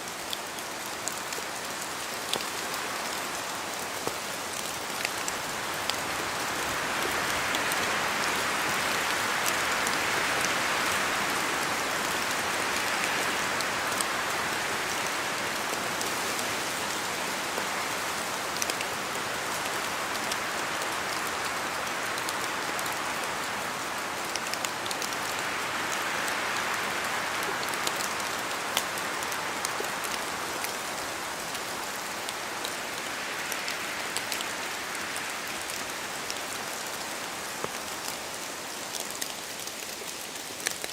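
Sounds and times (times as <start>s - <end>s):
hiss of rainfall: 0.0s - 40.9s.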